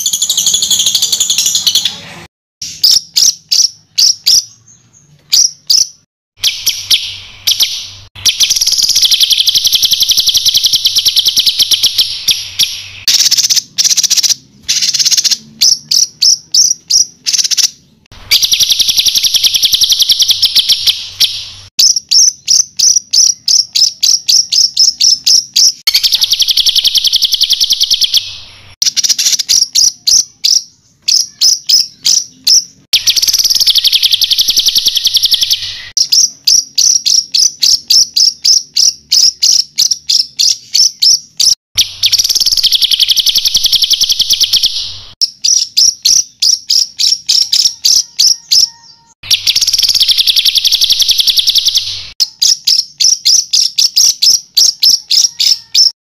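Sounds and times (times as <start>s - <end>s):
sharp high repeated bird notes: 0.0s - 4.6s, 5.2s - 56.0s
buzzy bird trill: 0.0s - 56.0s.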